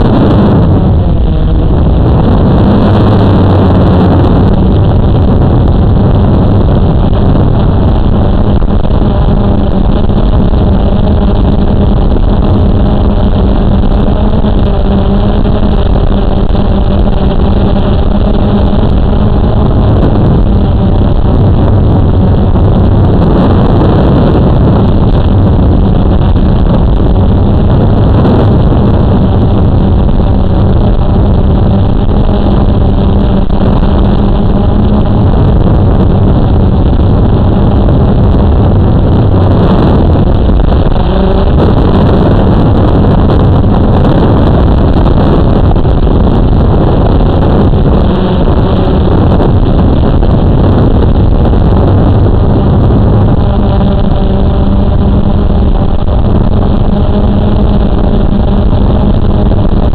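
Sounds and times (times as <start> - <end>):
quadcopter motors humming: 0.0 - 59.9.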